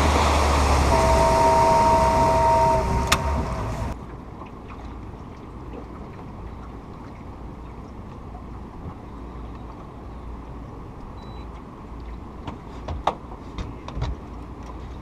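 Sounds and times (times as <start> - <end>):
boat engine low rumble: 0.0 - 15.0.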